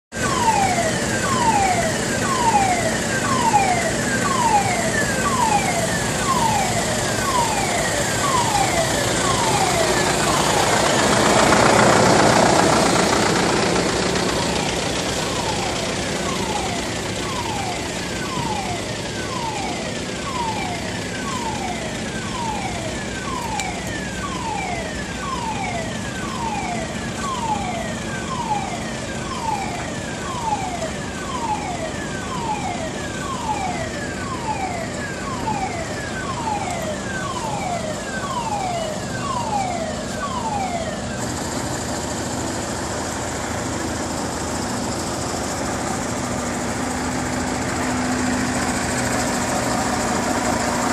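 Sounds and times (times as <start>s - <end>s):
diesel engine idling: 0.2s - 50.9s
warning alarm falling tone: 0.2s - 50.9s.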